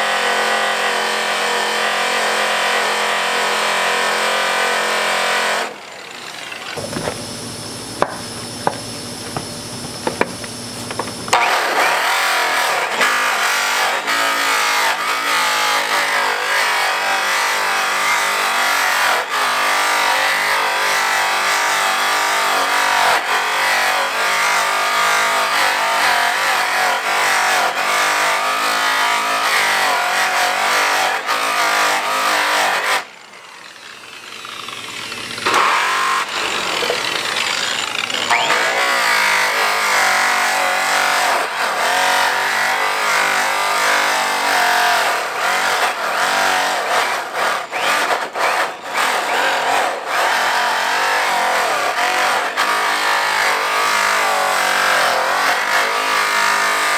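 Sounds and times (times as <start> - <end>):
angle grinder buffing metal: 0.0 - 56.9.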